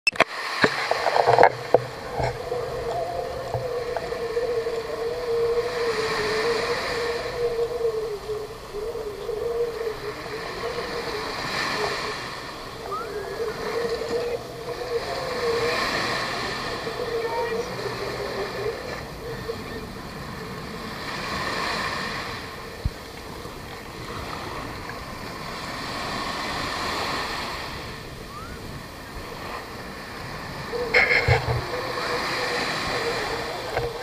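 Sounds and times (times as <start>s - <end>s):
small waves washing onto sand: 0.1s - 34.0s
steady wavering hum: 0.6s - 34.0s.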